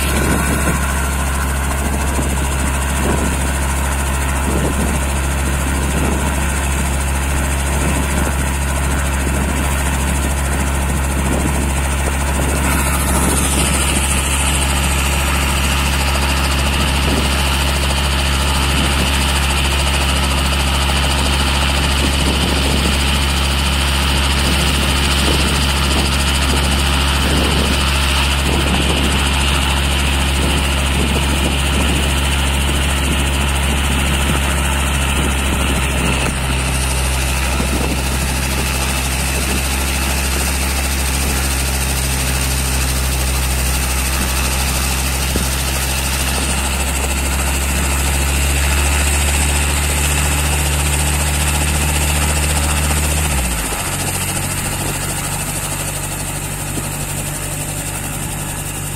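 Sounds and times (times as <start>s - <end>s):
helicopter engine and rotor drone: 0.0s - 58.9s
high-pitched whine: 0.0s - 58.9s.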